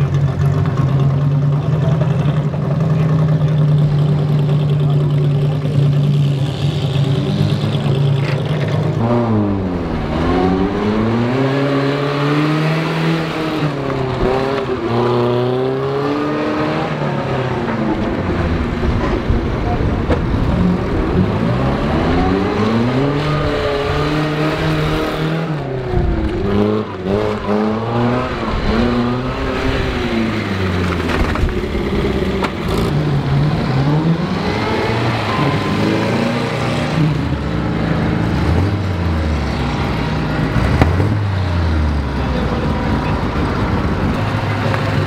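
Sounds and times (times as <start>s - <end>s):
sports car engines revving: 0.0s - 45.0s.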